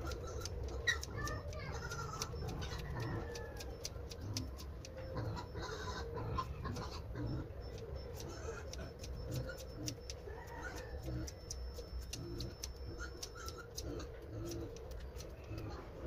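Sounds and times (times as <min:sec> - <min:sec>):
scissors snipping fur: 0:00.0 - 0:05.3, 0:07.6 - 0:16.0
animal calls: 0:00.0 - 0:16.0.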